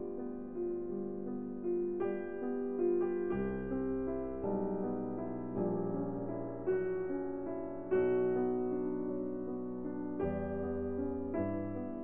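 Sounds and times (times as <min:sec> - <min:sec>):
slow soft piano chords: 0:00.0 - 0:12.0.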